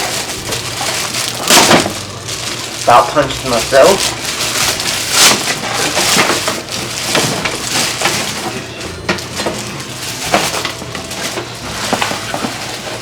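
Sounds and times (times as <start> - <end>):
cardboard packaging crinkling: 0.0 - 13.0.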